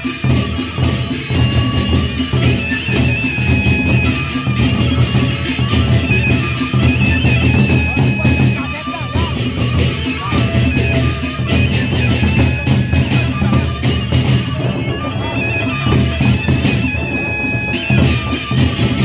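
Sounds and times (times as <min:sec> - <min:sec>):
barrel drums beaten with sticks: 0:00.0 - 0:19.0.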